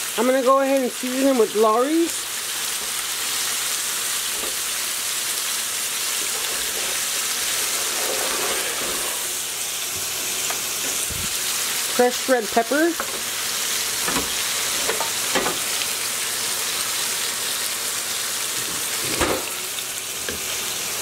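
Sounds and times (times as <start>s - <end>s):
pork chops sizzling in pan: 0.0s - 21.0s.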